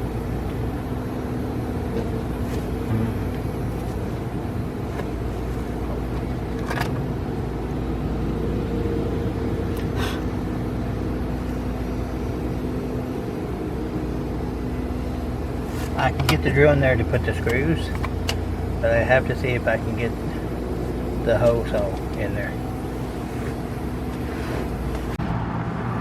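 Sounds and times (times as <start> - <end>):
low mechanical hum and rumble: 0.0 - 26.0.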